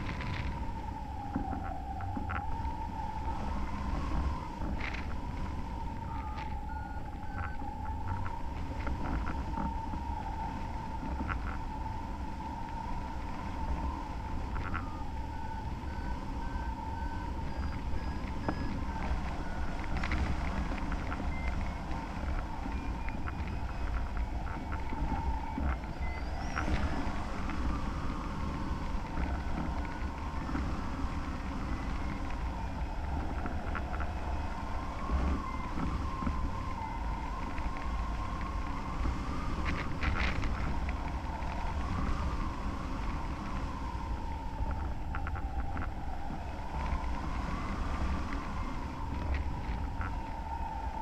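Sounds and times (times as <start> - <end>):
faint wavering tone: 0.0 - 51.0
wind rushing over microphone: 0.0 - 51.0.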